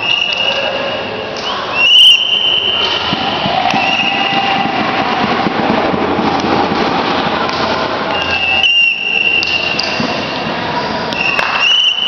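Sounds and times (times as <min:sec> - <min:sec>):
crowd noise in sports hall: 0:00.0 - 0:12.0.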